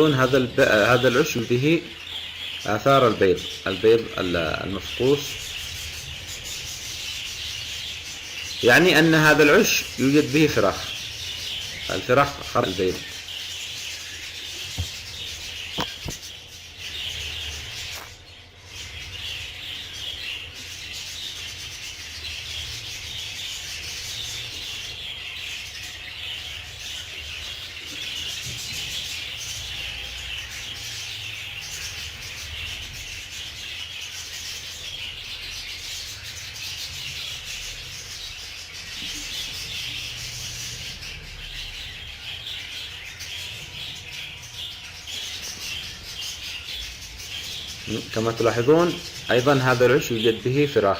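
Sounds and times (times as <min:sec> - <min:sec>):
budgerigars chattering and chirping: 0:00.0 - 0:50.9.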